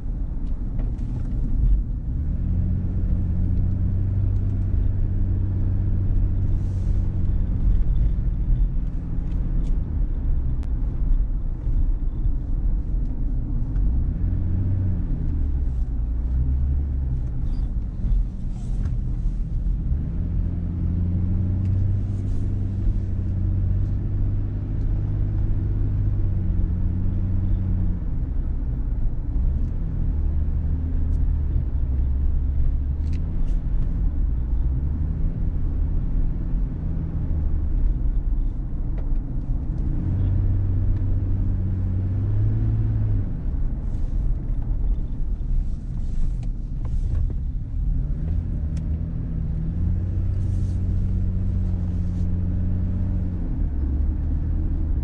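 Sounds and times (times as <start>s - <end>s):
car engine hum: 0.0s - 55.0s
road and tyre noise: 0.0s - 55.0s.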